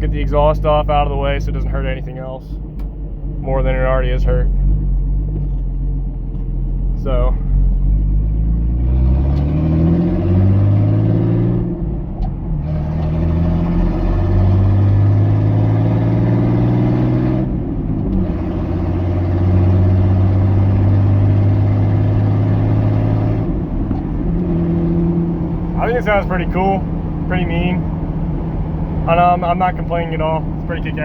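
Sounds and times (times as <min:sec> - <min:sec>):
car engine revving without exhaust: 0:00.0 - 0:31.0.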